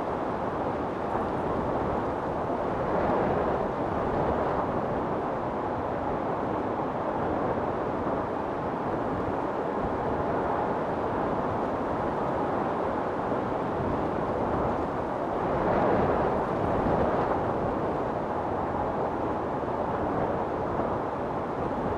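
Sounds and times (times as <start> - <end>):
strong storm wind blowing: 0.0 - 21.9.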